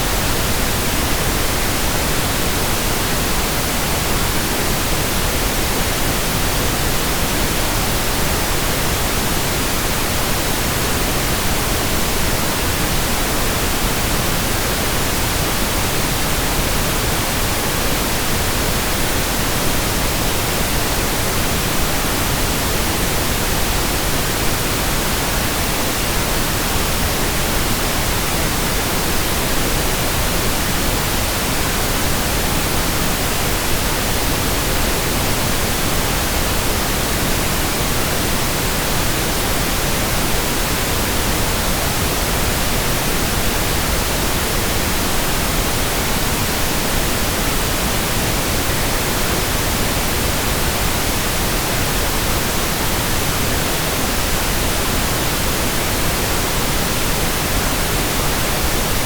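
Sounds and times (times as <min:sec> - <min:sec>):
steady pink noise hiss: 0:00.0 - 0:59.0.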